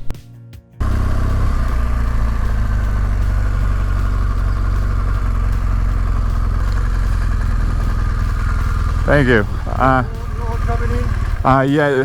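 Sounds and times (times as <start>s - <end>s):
motorcycle engine running: 0.8s - 12.0s.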